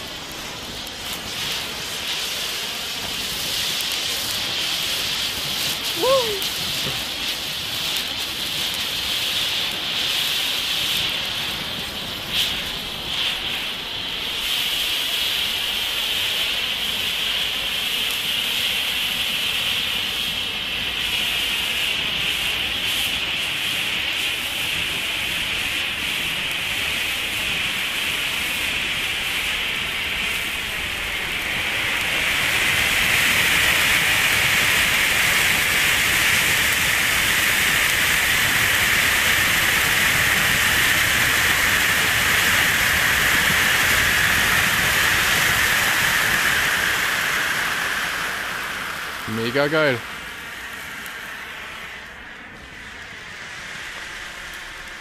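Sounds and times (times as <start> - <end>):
flares hissing sparks: 0.0 - 55.0.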